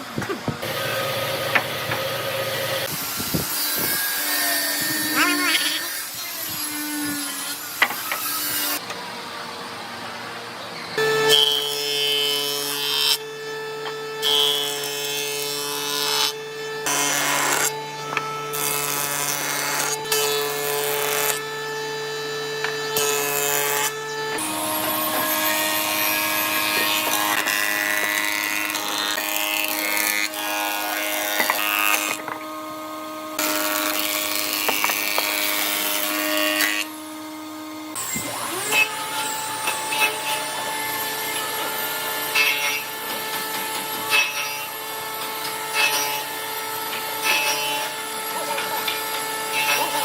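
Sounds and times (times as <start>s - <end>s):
woodworking machine cutting wood: 0.0s - 10.0s, 10.9s - 50.0s.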